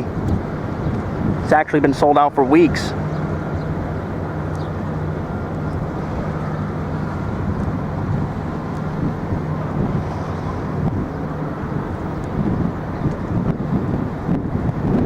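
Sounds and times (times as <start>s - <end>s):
engine drone: 0.0s - 15.0s
rumble of outdoor traffic: 0.0s - 15.0s.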